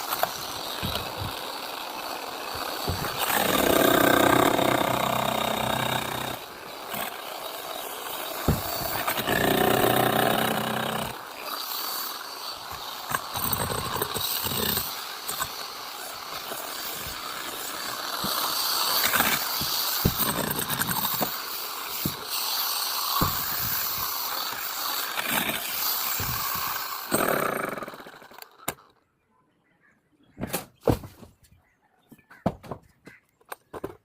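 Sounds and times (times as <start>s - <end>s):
power saw cutting concrete: 0.0s - 28.8s.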